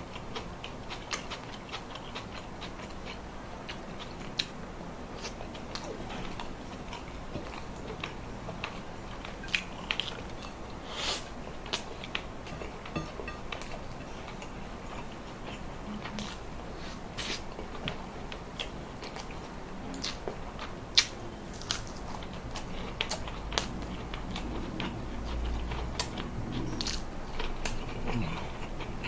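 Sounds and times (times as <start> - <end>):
person chewing crunchy food: 5.2 - 29.0.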